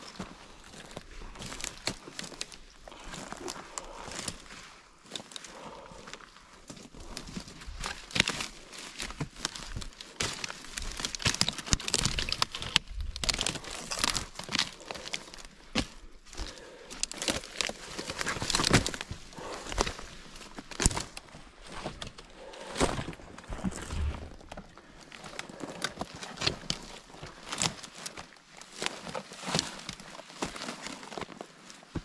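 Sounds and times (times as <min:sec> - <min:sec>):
footsteps crunching through dry brush: 0:00.0 - 0:32.0
branches rustling: 0:00.1 - 0:31.9.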